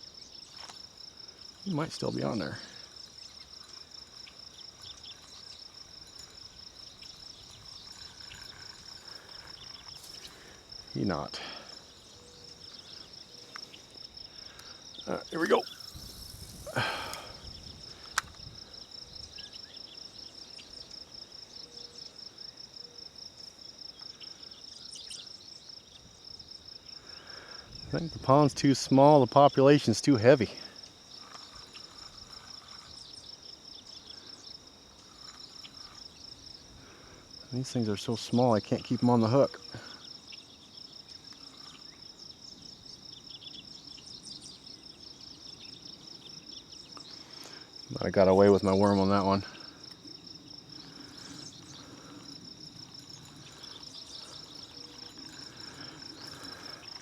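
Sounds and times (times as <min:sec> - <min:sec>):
crickets trilling: 0:00.0 - 0:57.0
insects chirping: 0:00.0 - 0:57.0.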